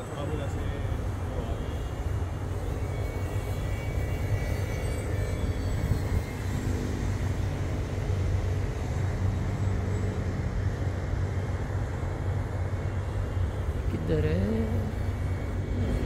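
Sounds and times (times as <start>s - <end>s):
model plane motor droning: 0.8s - 16.0s.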